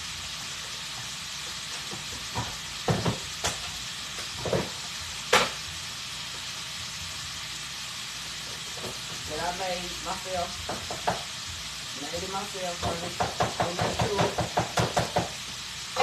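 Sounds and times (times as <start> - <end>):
shrimp sizzling in a skillet: 0.0 - 16.0.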